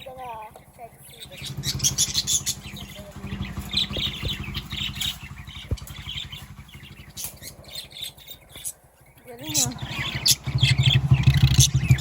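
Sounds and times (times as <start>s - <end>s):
birds chirping: 0.0s - 12.0s
steady low rumble: 0.1s - 12.0s.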